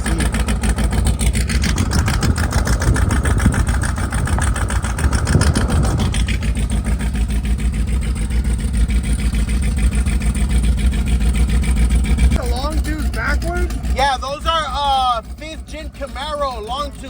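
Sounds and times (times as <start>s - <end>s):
car engine rumbling: 0.0s - 17.0s
high-pitched engine whine: 0.0s - 17.0s.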